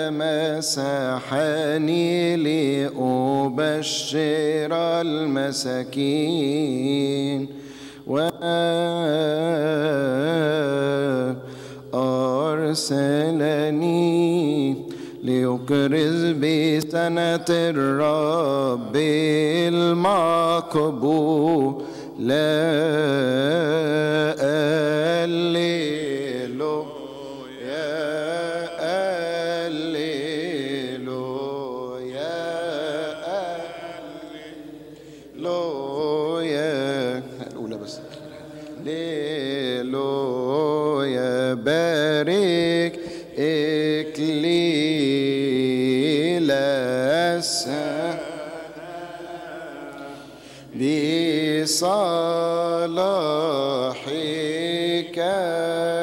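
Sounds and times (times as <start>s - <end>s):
man chanting in reverberant church: 0.0s - 56.0s.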